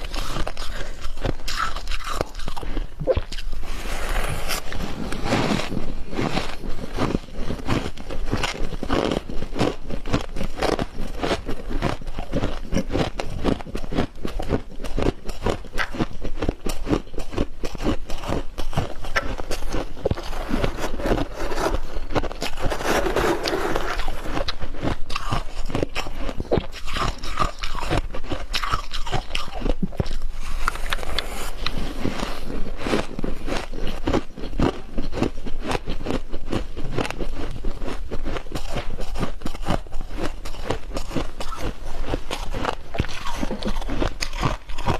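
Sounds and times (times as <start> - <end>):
chewing crunchy frost: 0.0 - 44.9.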